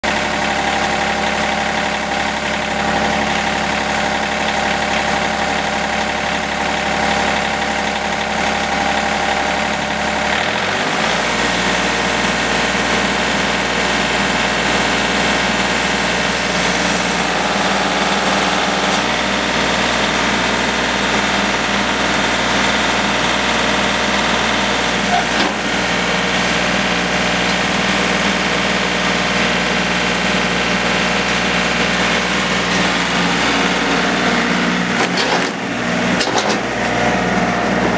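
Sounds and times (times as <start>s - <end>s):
tractor diesel engine idling: 0.0s - 37.9s.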